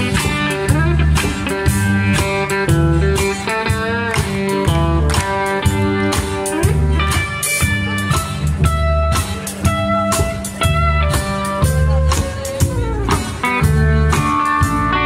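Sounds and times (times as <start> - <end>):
country band playing: 0.0 - 15.0
electric guitar lead: 0.0 - 15.0.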